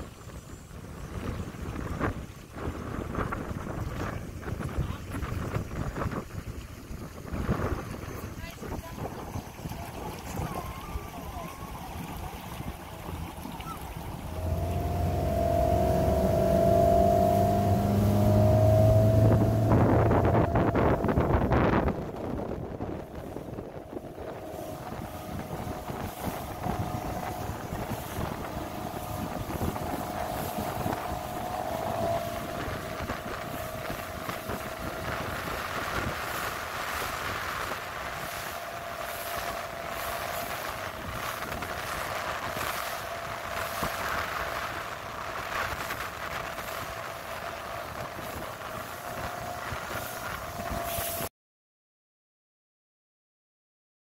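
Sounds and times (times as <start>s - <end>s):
motorboat engine: 0.0s - 51.3s
water rushing: 0.0s - 51.3s
wind buffeting microphone: 0.0s - 51.3s.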